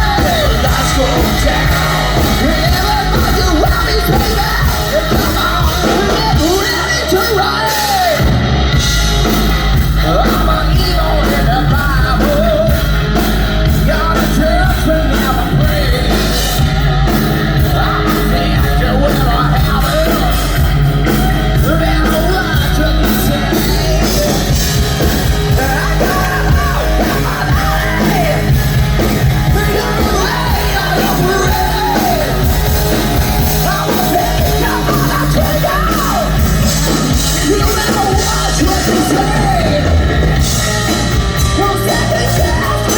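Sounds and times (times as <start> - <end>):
person yelling singing: 0.0 - 8.4, 9.7 - 42.9
drums: 0.0 - 42.9
electric guitar: 0.0 - 42.9
hard rock band playing: 0.0 - 42.9.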